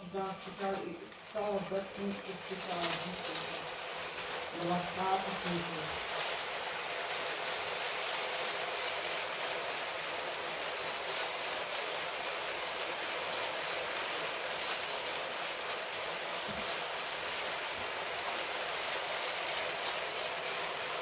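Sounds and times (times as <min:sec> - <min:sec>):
toy train wheels rattling: 0:00.0 - 0:21.0.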